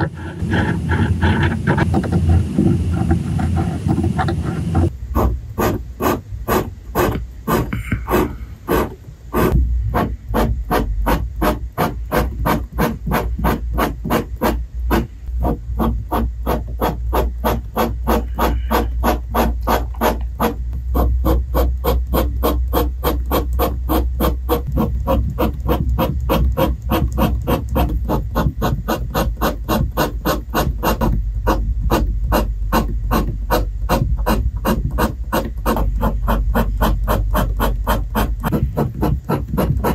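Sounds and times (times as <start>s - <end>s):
pen nib scratching paper: 0.0s - 39.9s.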